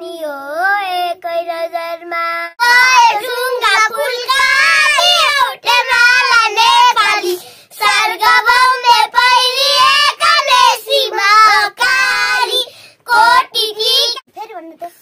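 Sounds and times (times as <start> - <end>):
girls singing unaccompanied: 0.0 - 14.3.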